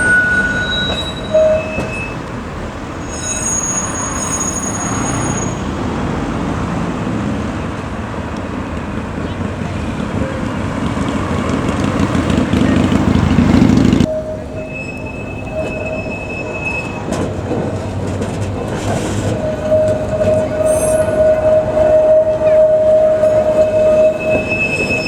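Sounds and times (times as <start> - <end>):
steel wheels squealing on rails: 0.0 - 6.1, 9.7 - 25.0
tram rumbling: 0.0 - 25.0.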